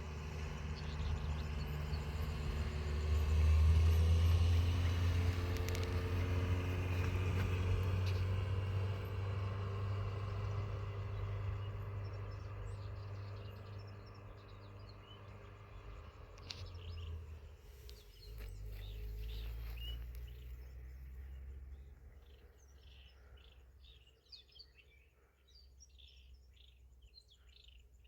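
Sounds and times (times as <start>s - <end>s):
vehicle engine running: 0.0s - 24.1s.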